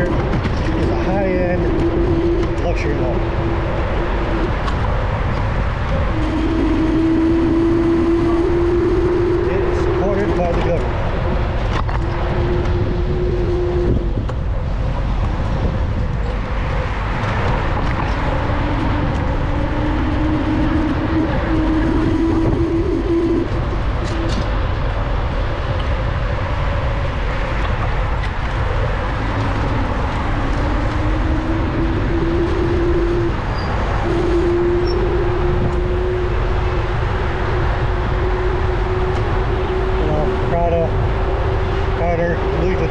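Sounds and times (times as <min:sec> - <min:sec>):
faint humming tone: 0:00.0 - 0:16.2, 0:17.5 - 0:42.9
street traffic rumble: 0:00.0 - 0:42.9.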